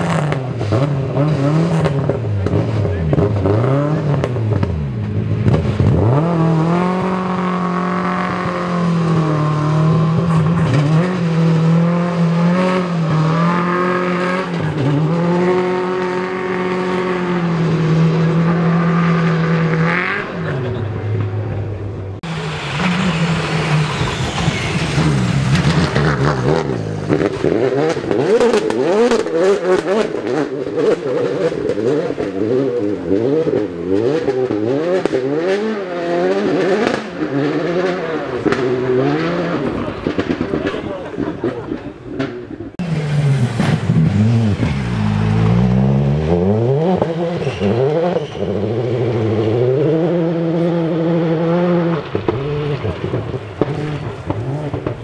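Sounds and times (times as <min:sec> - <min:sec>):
rally car engine high pitch: 0:00.0 - 0:55.0
rally car revving with crackling: 0:00.0 - 0:55.0.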